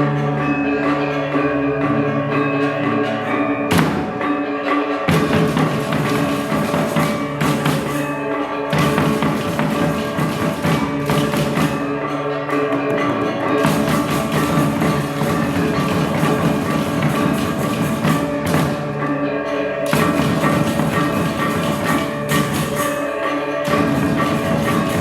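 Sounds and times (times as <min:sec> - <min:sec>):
gamelan ensemble playing: 0:00.0 - 0:25.0.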